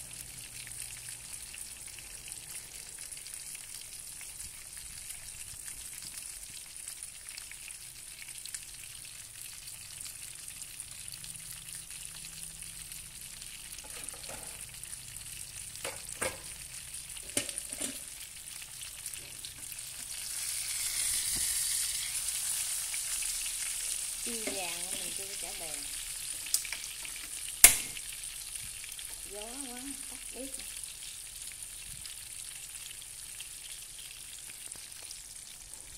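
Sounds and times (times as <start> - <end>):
fish sizzling in hot oil: 0.0 - 35.9.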